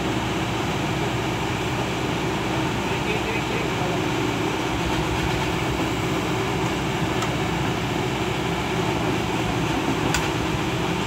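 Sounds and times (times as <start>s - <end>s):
diesel excavator engine running: 0.0s - 11.0s.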